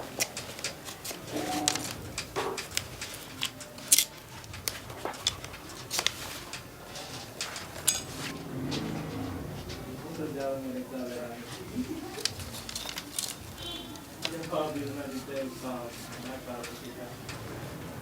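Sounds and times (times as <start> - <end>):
bamboo strips clicking and tapping: 0.0 - 18.0.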